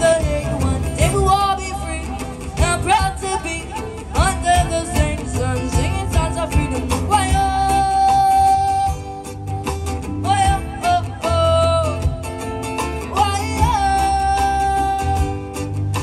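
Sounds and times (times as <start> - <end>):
person singing: 0.0 - 12.4, 13.0 - 16.0
acoustic guitar: 0.0 - 16.0
electric bass: 0.0 - 16.0.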